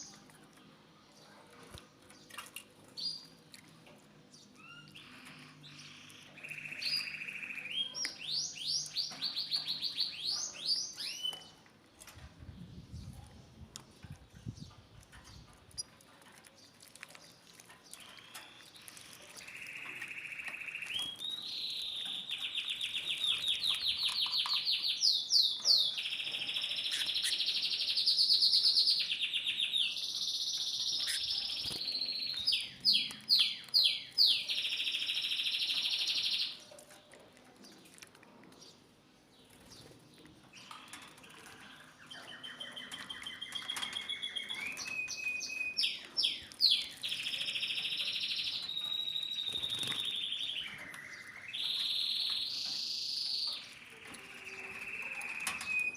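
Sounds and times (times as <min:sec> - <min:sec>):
canary singing trills: 0:04.4 - 0:11.6, 0:13.9 - 0:36.7, 0:39.4 - 0:55.9.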